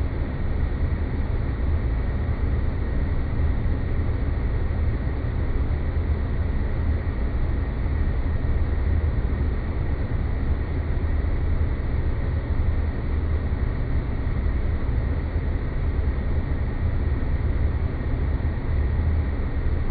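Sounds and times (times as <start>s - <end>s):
steady noise drone: 0.0s - 19.9s.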